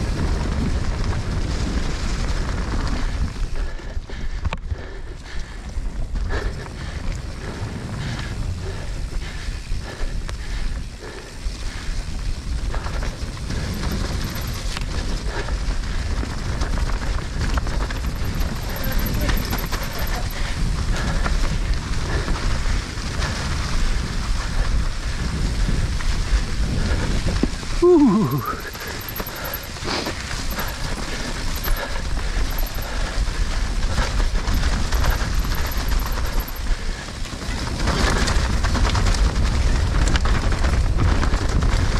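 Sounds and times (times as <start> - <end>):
bike rattling knocks and clicks: 0.0 - 41.9
bike tyre noise: 0.0 - 41.9
wind rumbling on microphone: 0.0 - 41.9.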